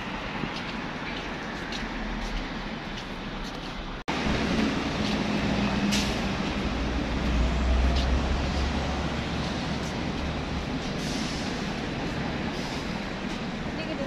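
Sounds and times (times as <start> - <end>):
bus engine passing: 0.0 - 14.0
cars passing: 0.0 - 14.0.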